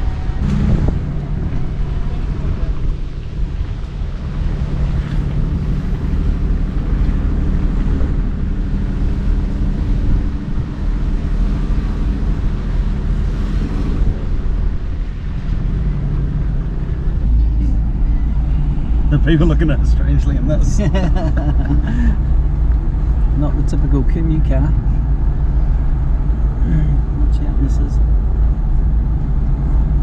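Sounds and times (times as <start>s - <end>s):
engine drone: 0.0s - 30.0s
road and wind rumble: 0.0s - 30.0s.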